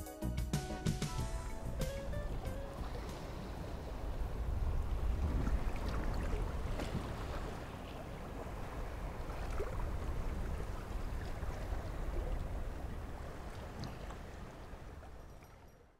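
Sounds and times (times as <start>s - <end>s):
deep boat rumble: 0.8s - 15.4s
water rushing and splashing: 1.2s - 15.7s.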